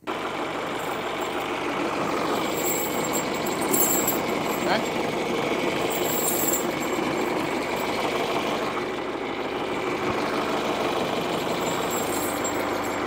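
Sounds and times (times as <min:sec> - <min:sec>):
tractor engine running slowly: 0:00.0 - 0:13.0.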